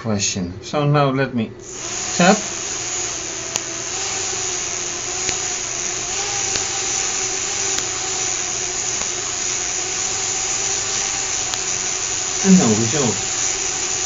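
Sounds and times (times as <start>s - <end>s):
small electric motor whirring: 1.6s - 14.0s
faint ticks: 1.7s - 14.0s.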